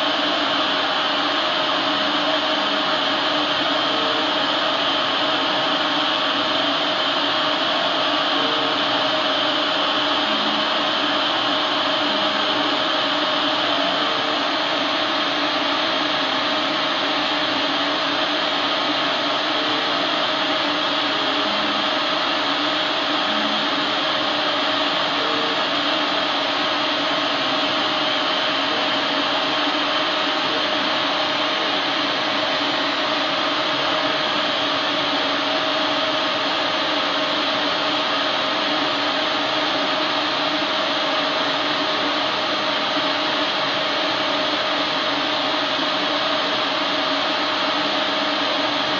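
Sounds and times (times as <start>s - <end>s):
laser cutter fan whir: 0.0s - 48.9s.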